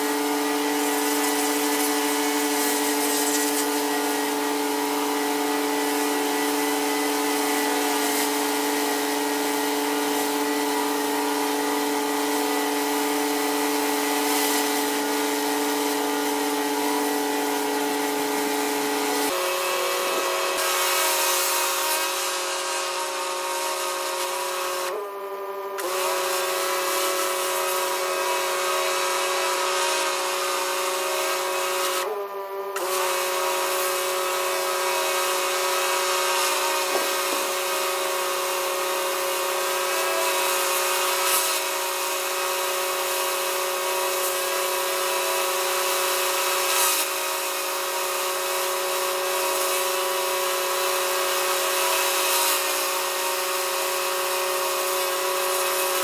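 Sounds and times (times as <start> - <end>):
pressure washer spraying: 0.0 - 25.1, 25.8 - 32.2, 32.8 - 56.0.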